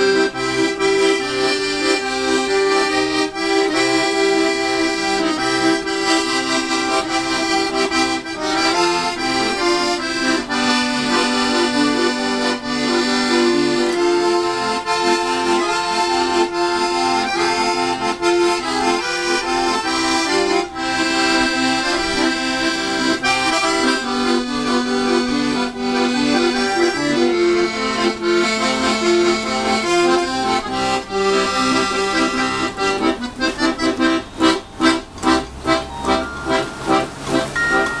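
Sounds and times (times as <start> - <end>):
accordion playing a tune: 0.0 - 38.0.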